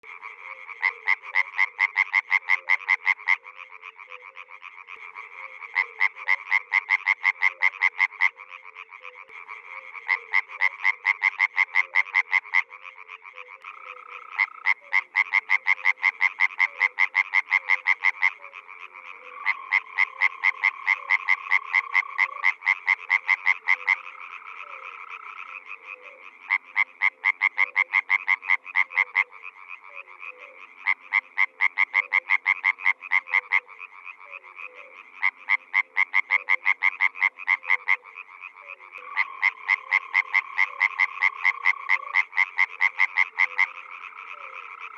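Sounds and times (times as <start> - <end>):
frog chorus: 0.0 - 44.9
frog pulsed croaks: 0.0 - 44.9.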